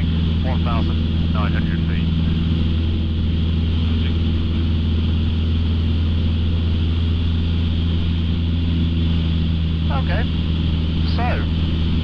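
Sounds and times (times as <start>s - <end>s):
aircraft propeller engine droning: 0.0s - 12.0s.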